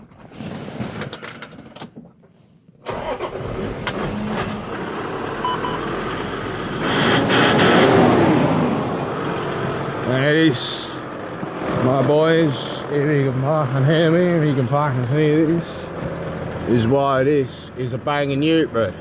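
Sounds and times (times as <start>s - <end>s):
engine starting and running: 2.8s - 19.0s
engine revving: 2.9s - 19.0s.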